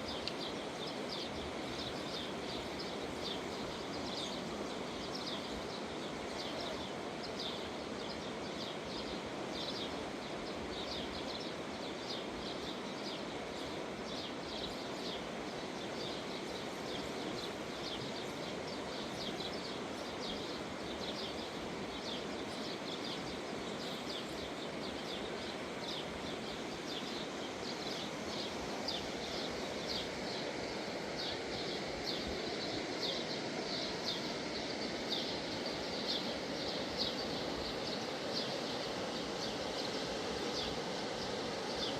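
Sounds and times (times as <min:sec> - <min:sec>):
rushing outdoor background noise: 0:00.0 - 0:41.9
small birds chirping: 0:00.0 - 0:41.9.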